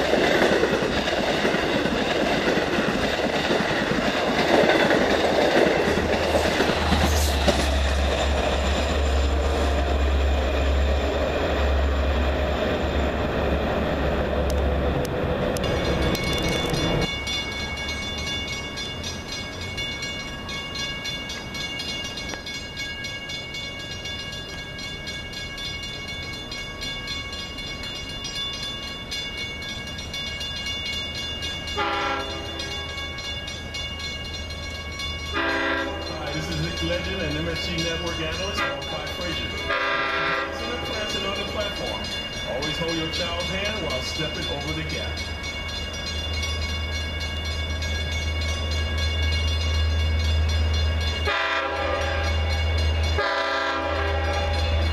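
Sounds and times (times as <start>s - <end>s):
train rumbling past: 0.0s - 54.9s.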